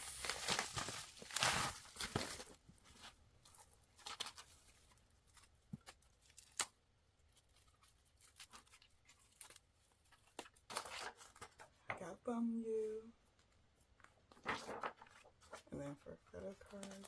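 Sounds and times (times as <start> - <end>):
paper packaging rustling: 0.0 - 6.6, 7.3 - 11.8, 14.0 - 17.0.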